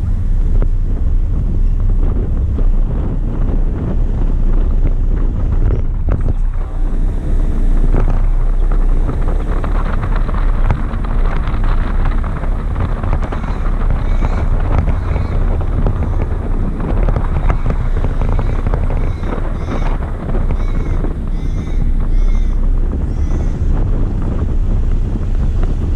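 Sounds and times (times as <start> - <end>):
road noise: 0.0 - 25.9
wind buffeting microphone: 0.0 - 25.9.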